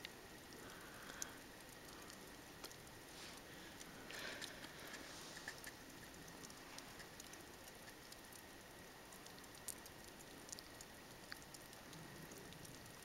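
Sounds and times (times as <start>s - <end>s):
faint outdoor hiss: 0.0s - 13.0s
faint ticks: 0.0s - 13.0s.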